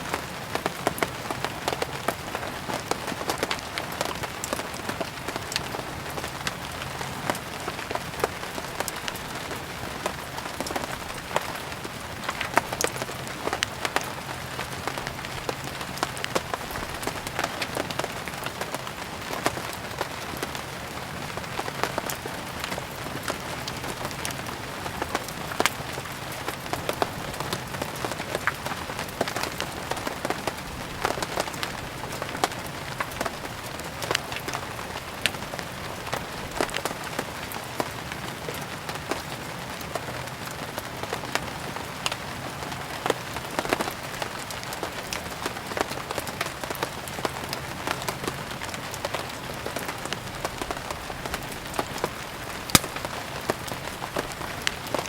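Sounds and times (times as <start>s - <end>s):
crackling wood fire: 0.0s - 55.0s
steady rain: 0.0s - 55.0s.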